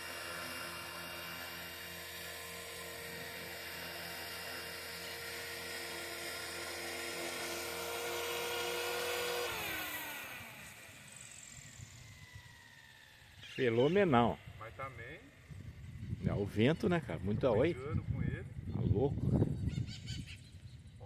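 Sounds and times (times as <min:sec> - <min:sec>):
model helicopter motor whining: 0:00.0 - 0:18.6.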